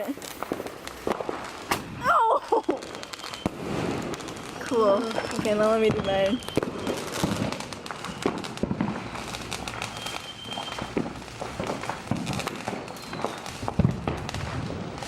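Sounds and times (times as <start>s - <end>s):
fireworks crackling: 0.0s - 15.0s
loud firework crack: 0.0s - 15.0s.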